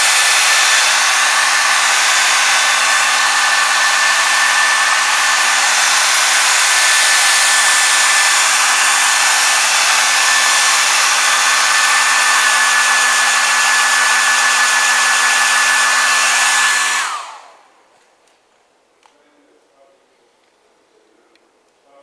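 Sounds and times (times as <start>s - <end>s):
hot-air blower running: 0.0s - 17.8s.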